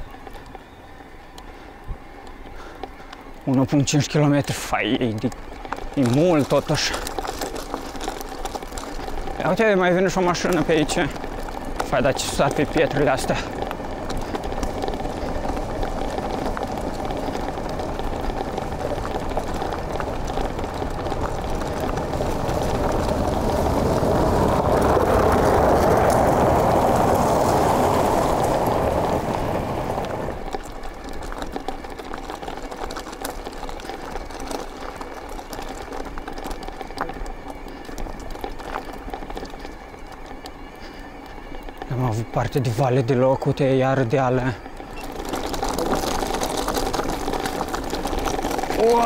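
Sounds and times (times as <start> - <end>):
car tyres on gravel: 0.0 - 49.0
rumble and rattle over stones: 0.0 - 49.0.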